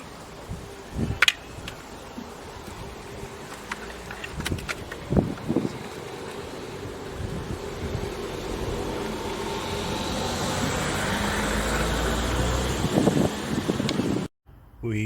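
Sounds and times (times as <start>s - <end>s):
motor vehicle humming: 0.0s - 14.3s.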